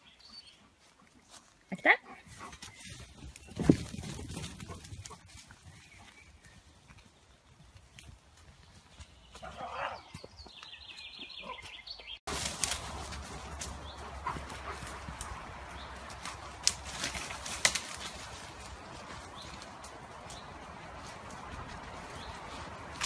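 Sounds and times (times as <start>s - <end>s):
rustling leaves and snapping twigs: 2.4s - 9.5s, 11.6s - 23.0s.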